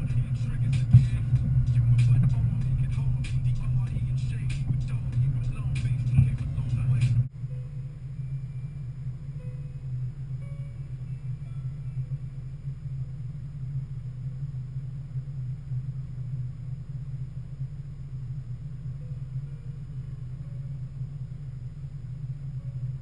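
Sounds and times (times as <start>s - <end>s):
vehicle engine rumbling: 0.0s - 20.6s.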